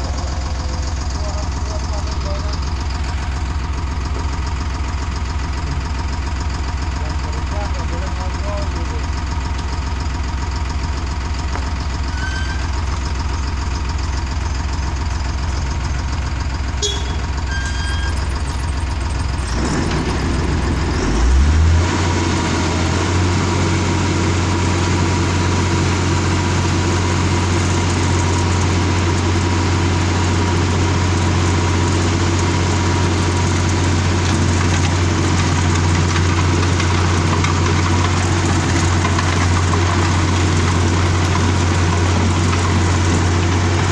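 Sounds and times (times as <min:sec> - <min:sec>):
diesel engine humming: 0:00.0 - 0:43.9
loud rough machine noise: 0:00.0 - 0:43.9.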